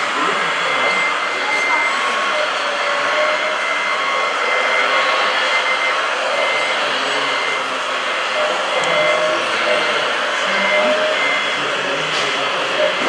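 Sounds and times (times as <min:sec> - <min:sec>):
small electric motors whirring: 0:00.0 - 0:13.0.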